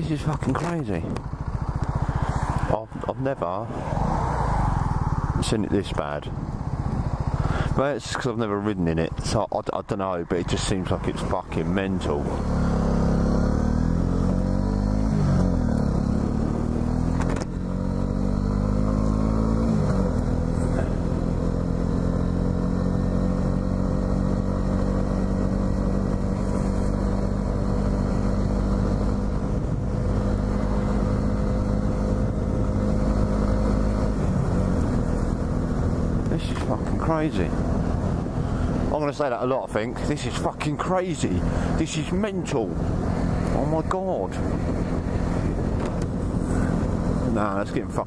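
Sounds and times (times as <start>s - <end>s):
motorcycle engine accelerating: 0.2s - 7.8s, 11.4s - 47.6s.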